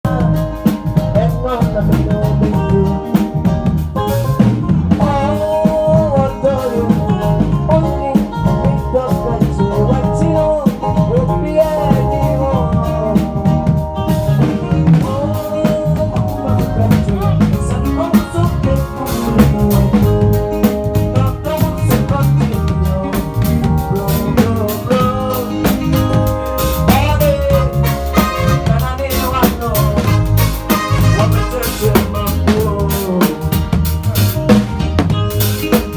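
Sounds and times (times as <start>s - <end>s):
bass: 0.0s - 35.9s
drum kit beat: 0.0s - 35.9s
sliding lead melody: 0.1s - 35.9s.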